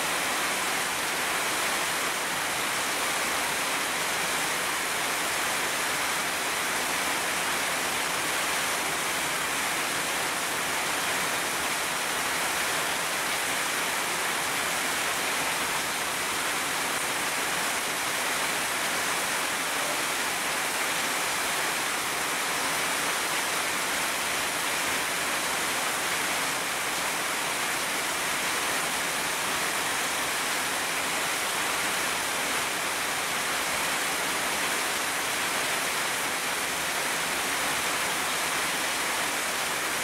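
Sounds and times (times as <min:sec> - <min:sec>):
heavy rain through foliage: 0:00.0 - 0:40.0.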